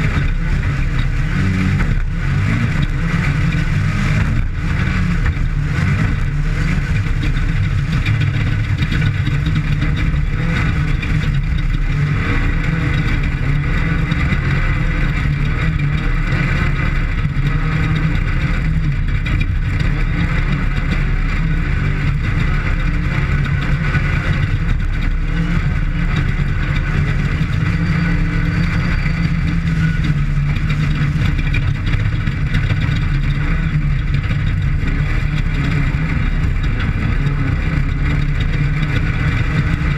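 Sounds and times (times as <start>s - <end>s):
race vehicle engine running hard: 0.0s - 39.9s.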